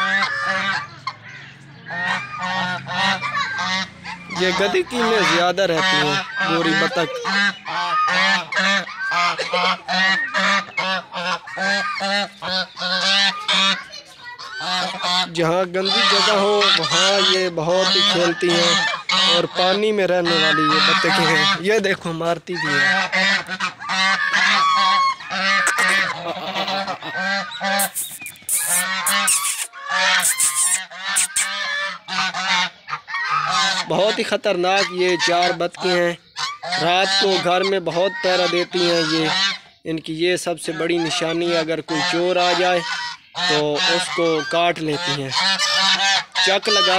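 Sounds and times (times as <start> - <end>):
geese honking: 0.0 - 39.8, 40.5 - 46.9.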